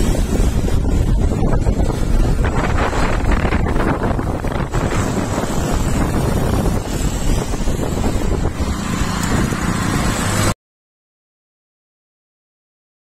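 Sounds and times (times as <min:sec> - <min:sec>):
traffic on roadway: 0:00.0 - 0:10.6
wind buffeting microphone: 0:00.0 - 0:10.6.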